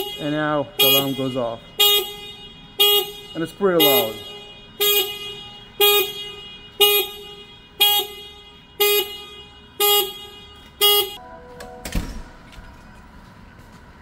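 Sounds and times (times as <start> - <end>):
motorcycle alarm honking: 0.0 - 12.4.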